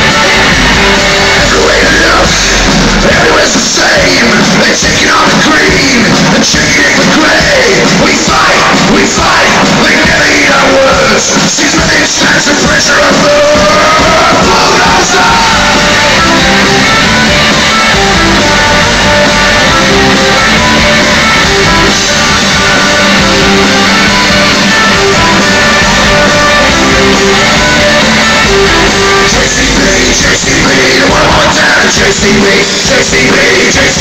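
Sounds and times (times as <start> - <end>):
rock band playing live: 0.0 - 34.0
shouted singing: 0.0 - 34.0.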